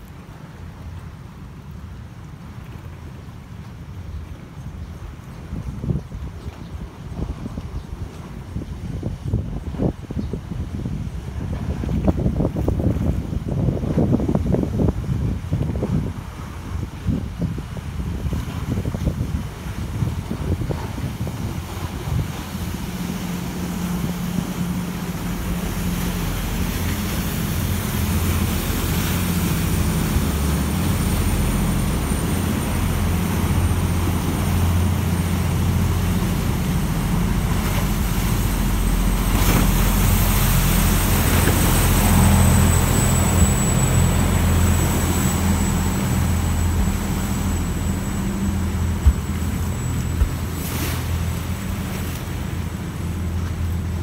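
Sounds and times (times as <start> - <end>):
boat diesel engine drone: 0.0 - 54.0
boat wake churning water: 0.0 - 54.0.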